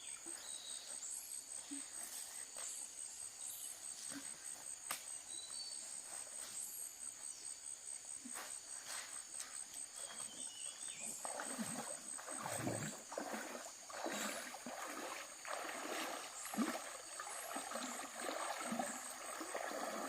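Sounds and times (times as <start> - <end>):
insects chirping trill: 0.0 - 20.0.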